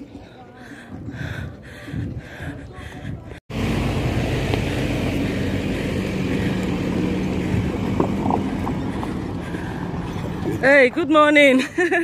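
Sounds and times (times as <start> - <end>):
truck engine humming: 1.5 - 11.3.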